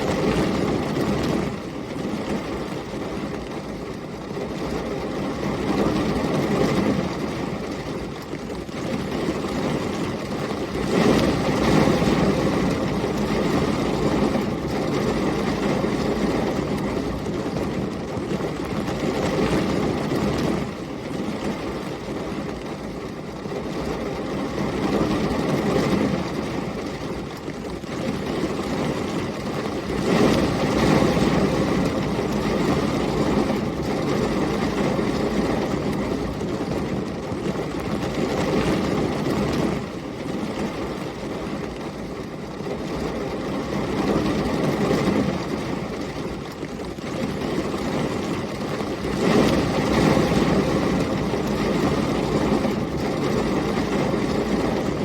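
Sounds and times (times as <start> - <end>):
heavy rain: 0.0 - 55.0
storm wind: 0.0 - 55.0.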